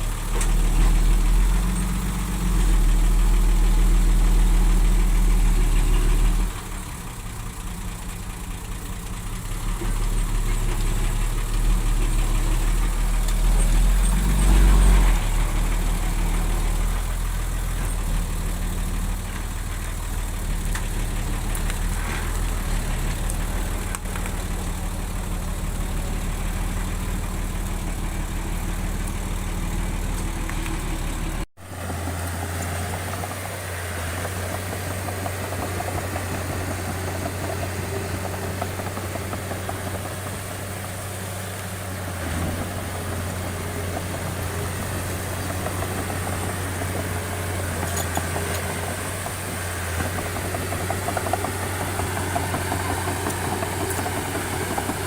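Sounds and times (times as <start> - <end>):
construction machine diesel engine: 0.0 - 55.0.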